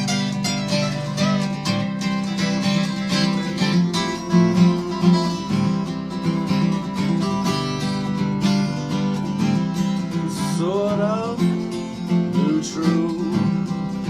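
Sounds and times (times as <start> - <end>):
acoustic guitar strumming: 0.0 - 14.0
person singing folk song: 0.0 - 14.0.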